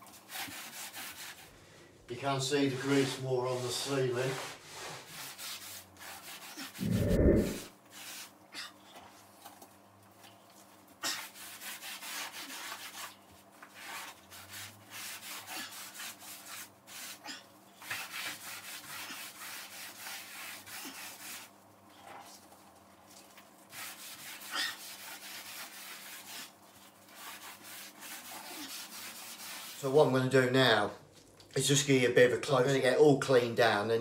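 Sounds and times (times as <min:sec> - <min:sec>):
sponge scrubbing a ceiling: 0:00.0 - 0:01.6, 0:02.2 - 0:30.3.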